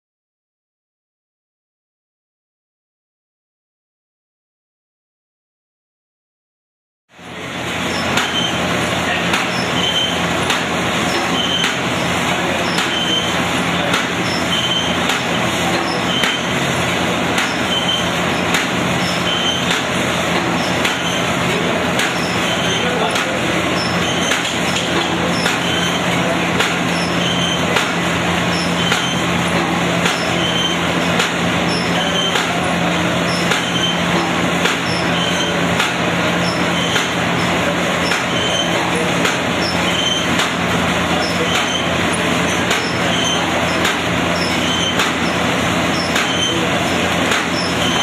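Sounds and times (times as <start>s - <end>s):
machine clatter: 7.7s - 48.0s.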